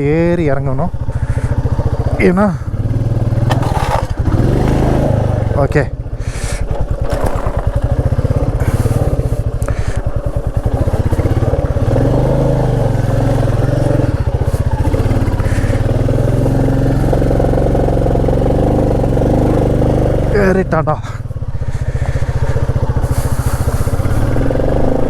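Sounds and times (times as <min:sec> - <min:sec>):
motorcycle engine labouring uphill: 0:00.0 - 0:25.0.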